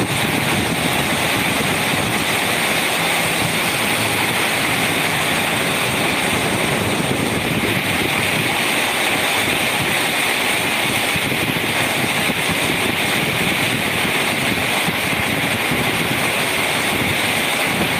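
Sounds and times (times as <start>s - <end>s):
rain on a metal roof: 0.0s - 17.9s.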